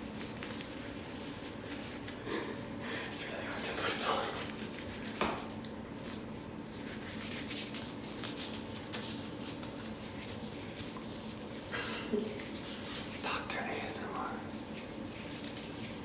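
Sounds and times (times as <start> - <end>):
plastic gloves rustling: 0.0 - 2.8, 3.8 - 16.0.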